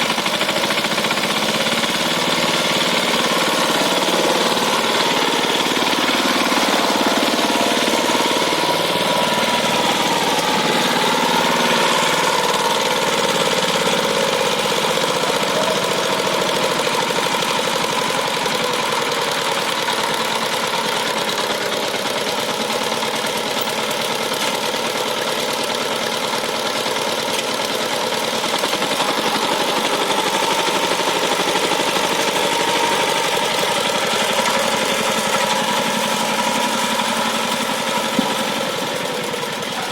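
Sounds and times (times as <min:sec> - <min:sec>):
diesel tiller engine chugging: 0:00.0 - 0:39.9.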